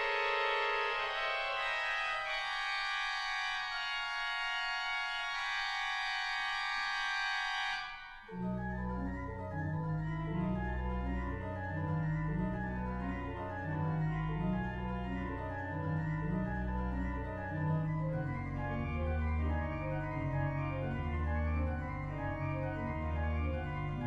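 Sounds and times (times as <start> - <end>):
organ playing: 0.0 - 24.0.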